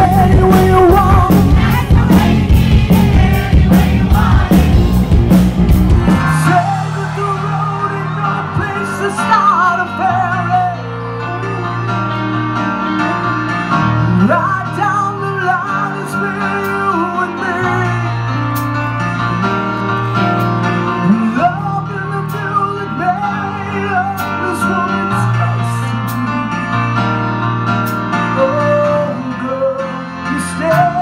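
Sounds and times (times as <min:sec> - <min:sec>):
lead vocal singing: 0:00.0 - 0:18.5, 0:20.6 - 0:26.9, 0:28.3 - 0:31.0
rock band music: 0:00.0 - 0:31.0.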